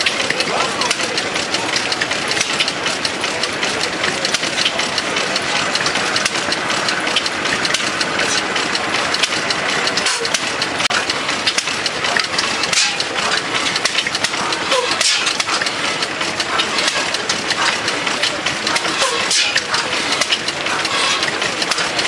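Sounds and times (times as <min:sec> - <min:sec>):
steam engine clattering: 0:00.0 - 0:22.0.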